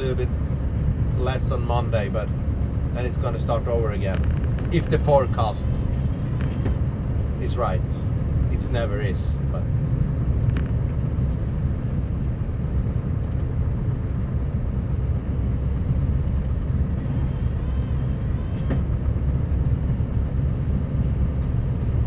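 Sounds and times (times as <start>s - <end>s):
truck diesel engine rumbling: 0.0s - 22.0s.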